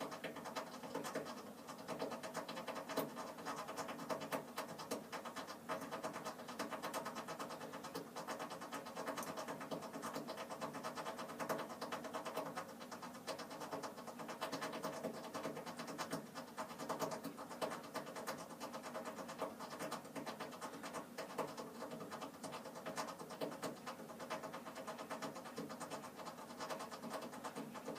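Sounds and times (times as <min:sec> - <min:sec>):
boiler crackling and ticking: 0:00.0 - 0:27.9.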